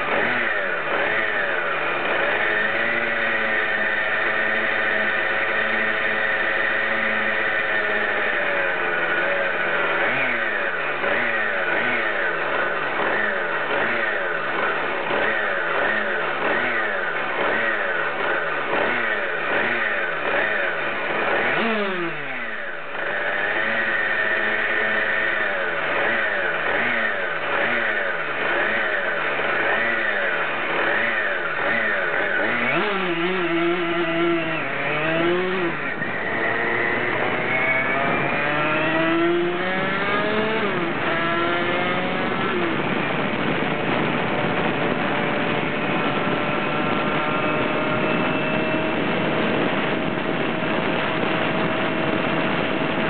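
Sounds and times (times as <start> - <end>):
moped engine revving: 0.0 - 53.0.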